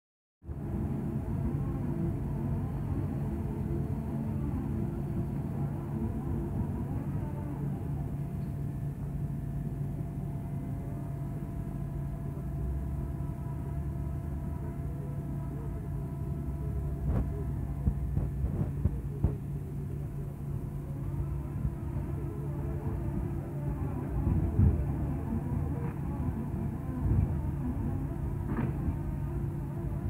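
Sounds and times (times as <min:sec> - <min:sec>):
diesel machinery drone: 0:00.4 - 0:30.0
faint whine: 0:00.4 - 0:30.0.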